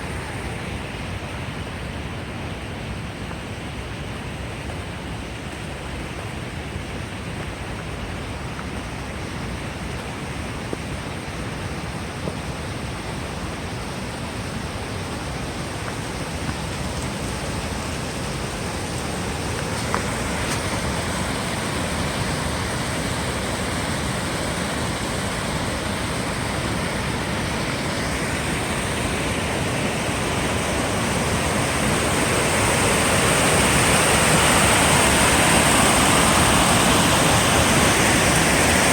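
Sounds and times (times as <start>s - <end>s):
rush of falling water: 0.0s - 38.9s.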